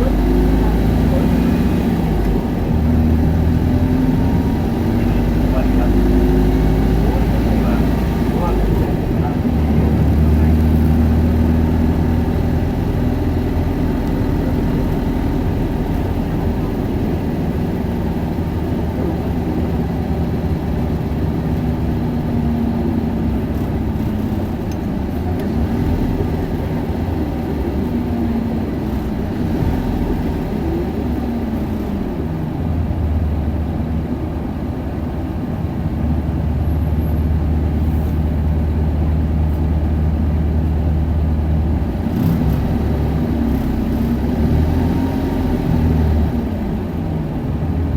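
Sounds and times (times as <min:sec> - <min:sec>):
bus diesel engine drone: 0:00.0 - 0:47.9.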